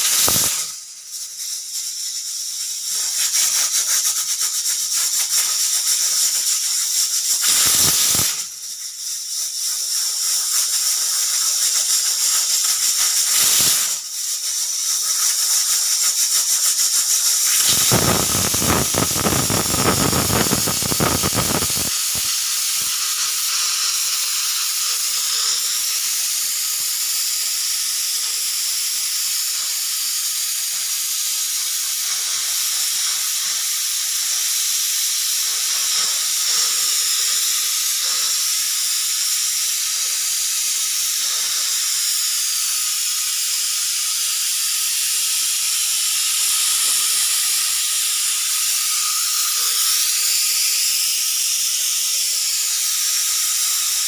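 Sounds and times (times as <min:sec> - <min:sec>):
pressure cooker steam hissing: 0:00.0 - 0:54.0.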